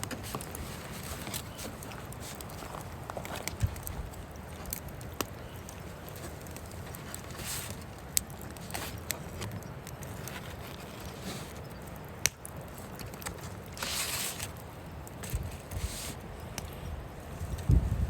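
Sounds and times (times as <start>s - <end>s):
fire hissing: 0.0s - 18.0s
fire popping: 0.0s - 18.0s
wood fire crackling: 0.0s - 18.0s.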